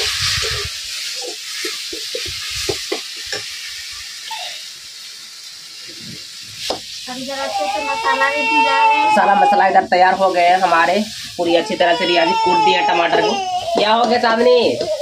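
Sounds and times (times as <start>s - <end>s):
masala sizzling in a pan: 0.0s - 15.0s.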